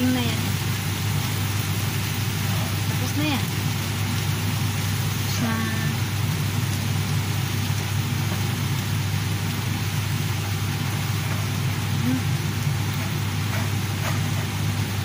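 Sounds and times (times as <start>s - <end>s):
meat mixture sizzling in a pan: 0.0s - 15.0s
steady low hum: 0.0s - 15.0s.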